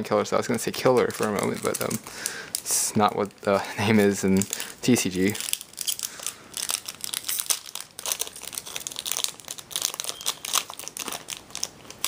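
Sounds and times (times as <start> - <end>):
foil wrapper crinkling: 0.4 - 12.0.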